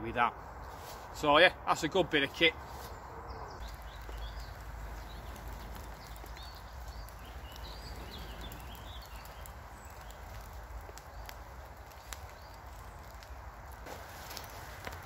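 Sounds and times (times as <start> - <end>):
birds chirping: 1.8 - 13.8.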